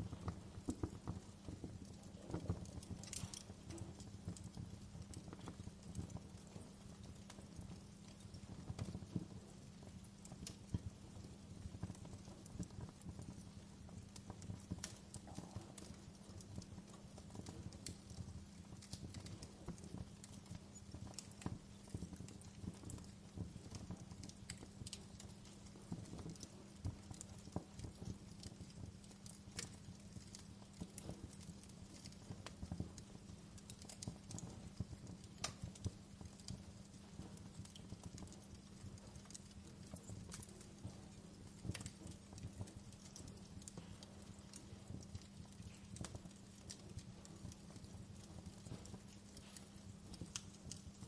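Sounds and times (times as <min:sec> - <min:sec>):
fire low rumble: 0:00.0 - 0:51.0
fire snaps and pops: 0:00.0 - 0:51.0.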